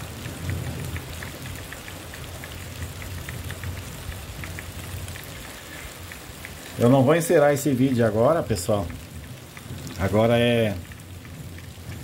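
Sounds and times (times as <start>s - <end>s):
drops ticking: 0.0s - 12.0s
steady rain falling: 0.0s - 12.0s.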